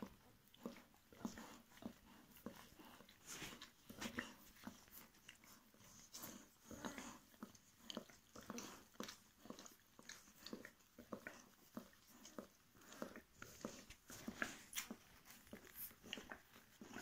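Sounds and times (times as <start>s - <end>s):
puppies suckling and smacking: 0.0s - 17.0s.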